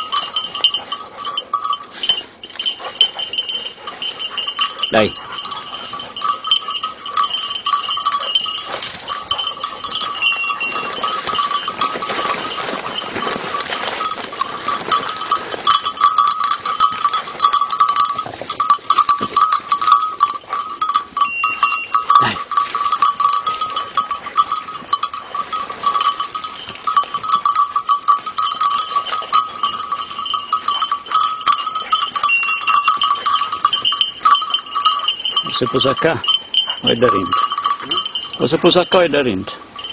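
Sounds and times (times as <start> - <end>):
brush rustling: 0.0 - 39.9
collar bell ringing: 0.0 - 39.9.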